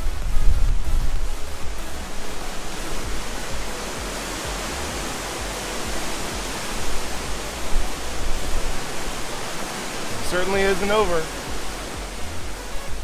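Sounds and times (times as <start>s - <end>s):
hurricane wind rushing: 0.0s - 13.0s
wind gusts on microphone: 0.0s - 13.0s.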